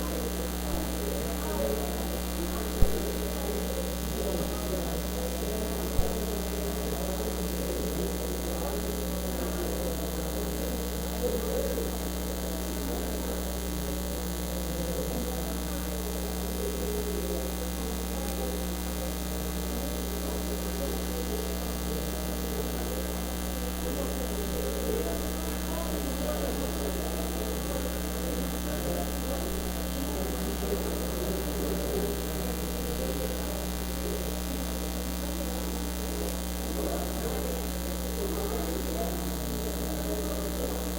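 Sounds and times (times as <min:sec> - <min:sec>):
electrical mains hum: 0:00.0 - 0:40.9
faint murmur of voices: 0:00.0 - 0:40.9.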